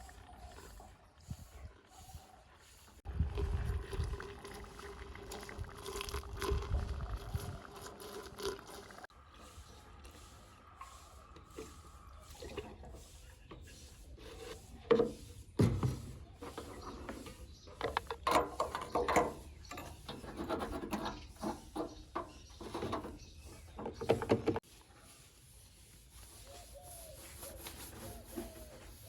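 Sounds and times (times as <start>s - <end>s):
toy loader scraping dry compost: 2.7s - 29.0s.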